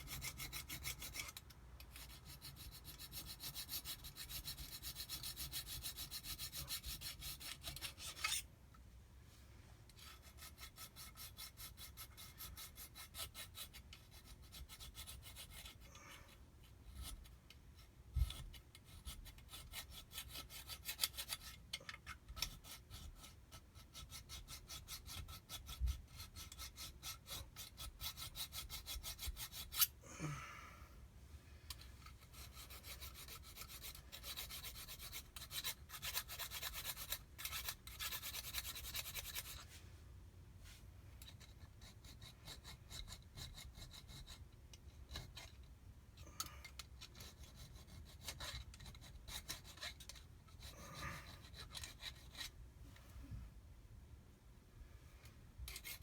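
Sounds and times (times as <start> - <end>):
file rasping on metal: 0.0 - 8.5, 10.0 - 15.9, 16.6 - 30.0, 32.0 - 39.6, 41.2 - 45.7, 46.7 - 52.6, 55.6 - 56.0.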